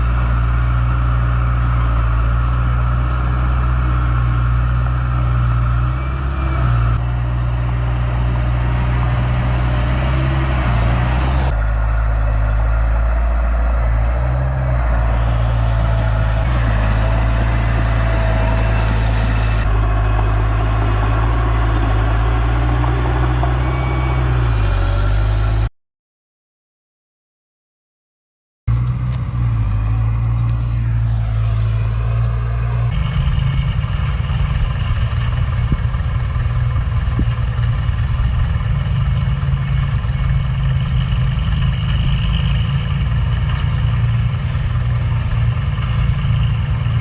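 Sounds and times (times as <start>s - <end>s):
heavy diesel engines droning: 0.0s - 25.7s, 28.7s - 47.0s.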